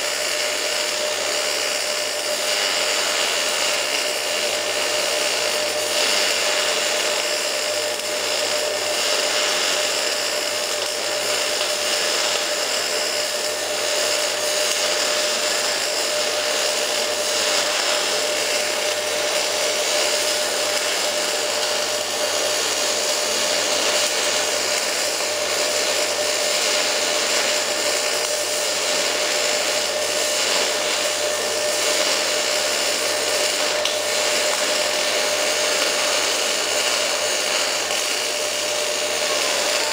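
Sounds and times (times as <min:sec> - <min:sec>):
welding arc hissing: 0:00.0 - 0:39.9.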